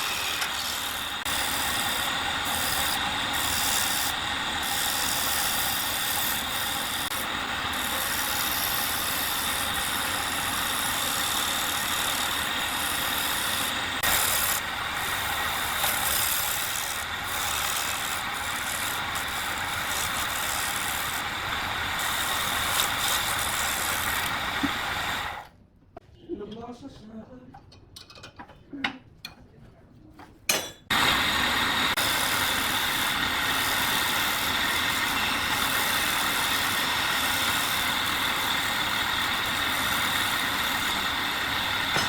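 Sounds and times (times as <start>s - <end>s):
power tool cutting wood: 0.0s - 25.4s, 30.9s - 42.0s.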